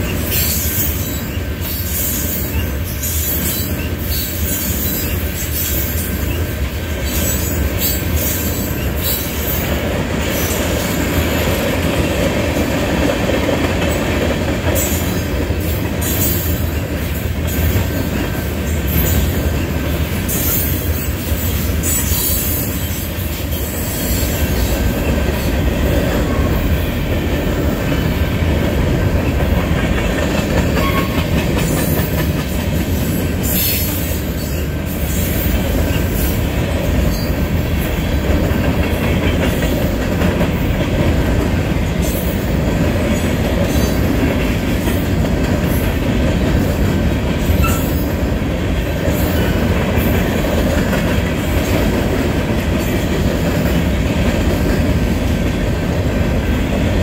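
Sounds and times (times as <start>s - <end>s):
steel wheels rumbling on rails: 0.0s - 57.0s
wheels clacking over rail joints: 0.0s - 57.0s.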